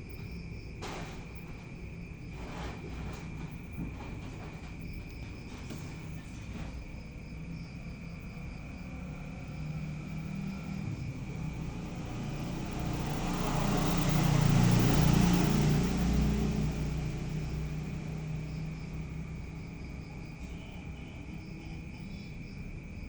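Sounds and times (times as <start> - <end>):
motor vehicle passing: 0.0 - 20.4
insects chirring: 0.0 - 23.0.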